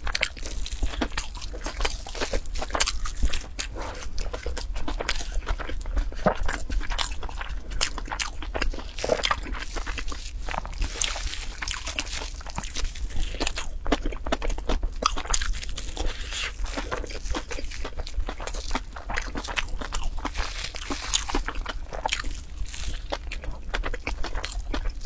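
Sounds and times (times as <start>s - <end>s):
person chewing crunchy food: 0.0s - 25.0s.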